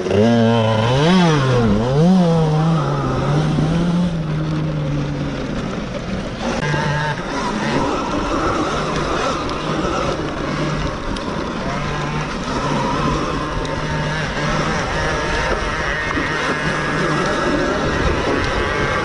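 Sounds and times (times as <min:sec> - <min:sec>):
electric motor whine: 0:00.0 - 0:19.0
steady rushing noise: 0:00.0 - 0:19.0.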